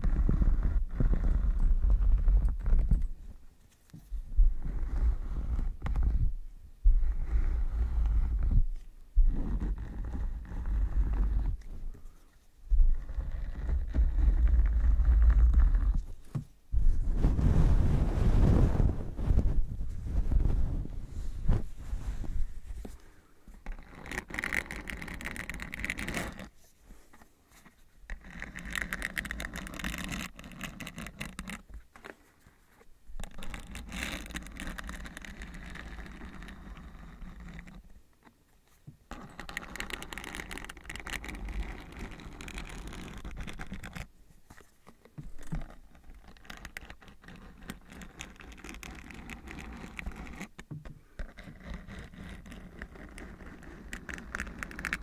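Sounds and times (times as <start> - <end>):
close brushing and scratching: 0.0 - 55.0.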